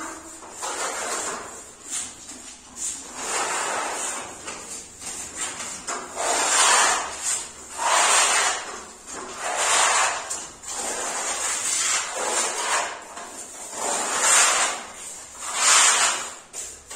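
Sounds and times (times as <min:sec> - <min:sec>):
putty knife scraping wall: 0:00.0 - 0:16.9.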